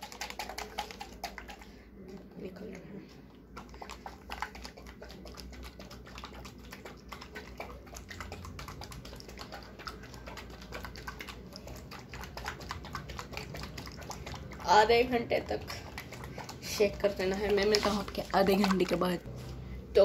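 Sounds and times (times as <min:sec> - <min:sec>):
plastic bottle shaken sloshing: 0:00.0 - 0:02.8, 0:03.4 - 0:19.3.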